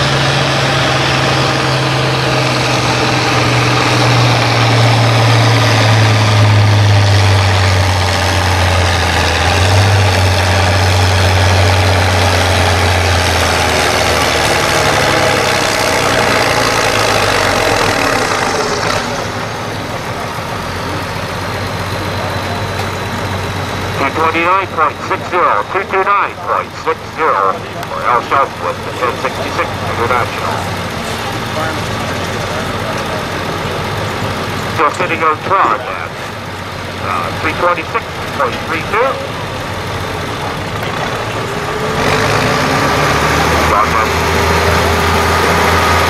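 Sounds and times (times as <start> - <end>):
tractor engine lugging under load: 0.0 - 46.0.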